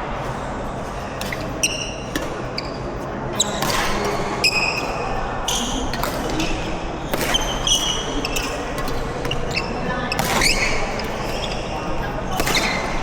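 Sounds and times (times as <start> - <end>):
shoes squeaking on court floor: 0.2 - 13.0
rackets striking shuttlecock: 1.1 - 2.8, 3.4 - 13.0.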